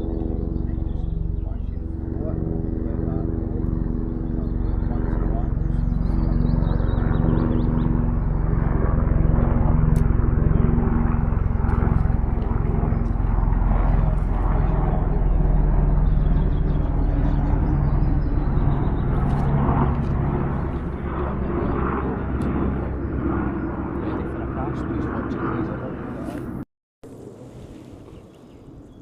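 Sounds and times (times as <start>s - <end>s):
steady engine drone: 0.0s - 26.6s.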